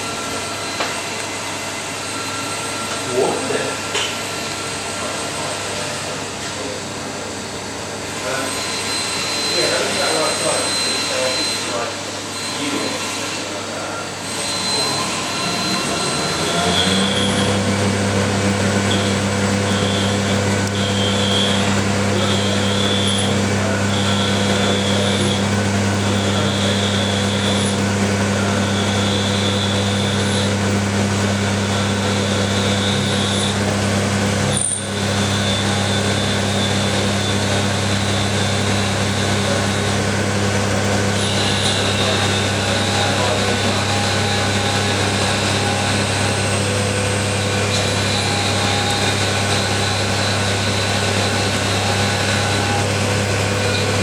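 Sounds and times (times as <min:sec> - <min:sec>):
high-pitched drive whine: 0:00.0 - 0:54.0
lathe motor hum: 0:00.0 - 0:54.0.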